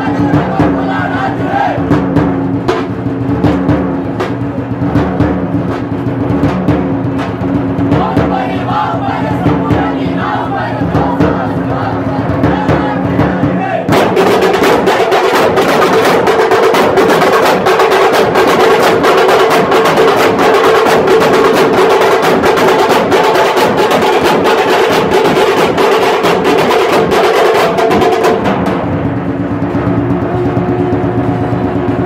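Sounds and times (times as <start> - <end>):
drums beaten in fast rhythm: 0.0 - 32.0.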